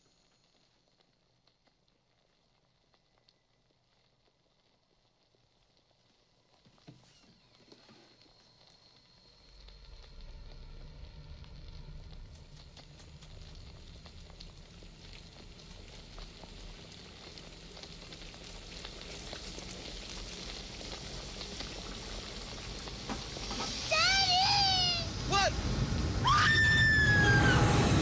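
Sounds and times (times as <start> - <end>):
pot boiling and bubbling: 0.0 - 28.0.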